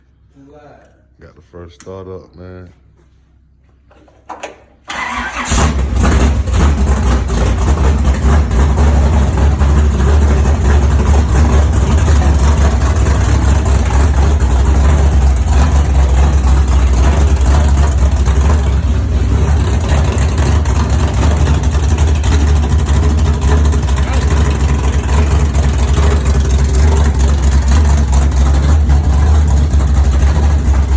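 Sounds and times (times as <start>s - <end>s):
big engine starting and running: 4.4s - 30.9s.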